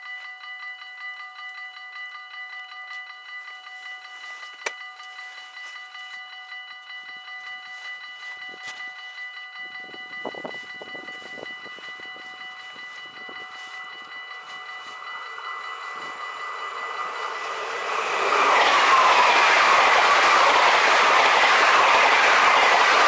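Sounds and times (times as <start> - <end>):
level crossing warning bell ringing: 0.0 - 23.0
low rumble of approaching train: 0.2 - 23.0.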